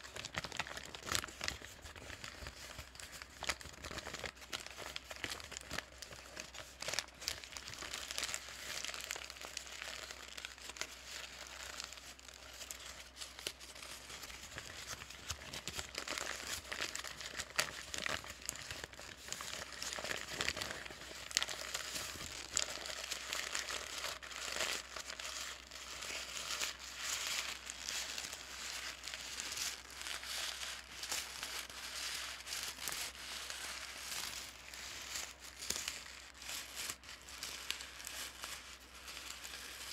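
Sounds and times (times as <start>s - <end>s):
paper bag crinkling: 0.0s - 39.9s.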